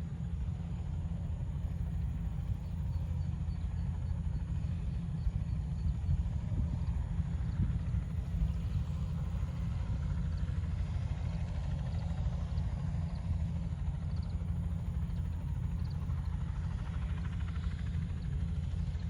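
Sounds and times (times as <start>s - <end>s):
helicopter rotor and engine rumble: 0.0s - 19.0s.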